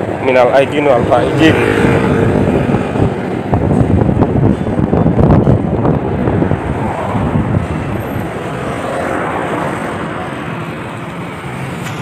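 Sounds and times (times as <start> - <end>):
wind buffeting microphone: 0.0 - 10.9
road noise: 0.0 - 12.0.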